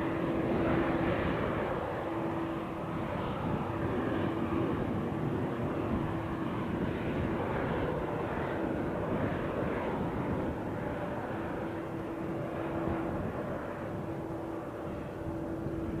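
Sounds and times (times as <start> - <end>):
airplane engines rushing: 0.0 - 16.0.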